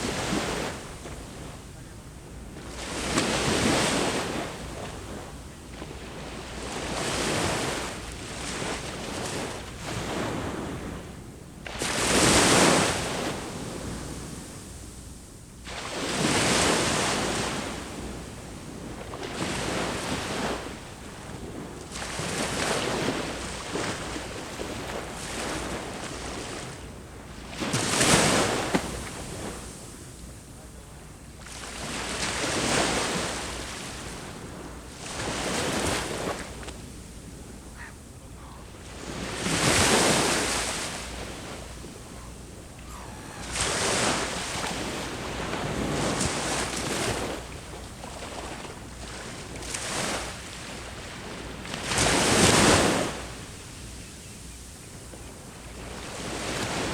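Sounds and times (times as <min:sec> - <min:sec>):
sea waves breaking on beach: 0:00.0 - 0:01.8, 0:02.4 - 0:14.9, 0:15.6 - 0:54.5, 0:55.3 - 0:56.9.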